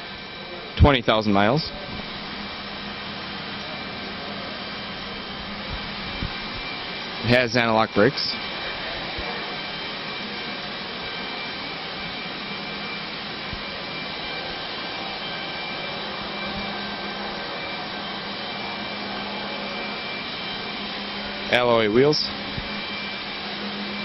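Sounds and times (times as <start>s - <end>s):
mechanical whirring hum: 0.0s - 24.0s.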